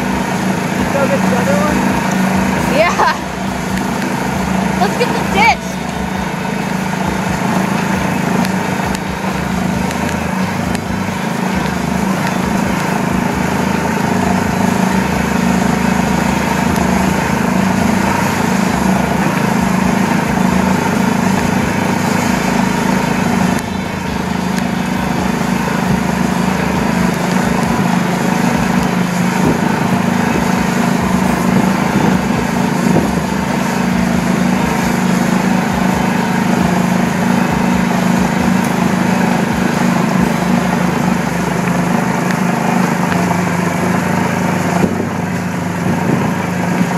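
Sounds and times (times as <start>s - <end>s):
golf cart motor running: 0.0s - 46.9s.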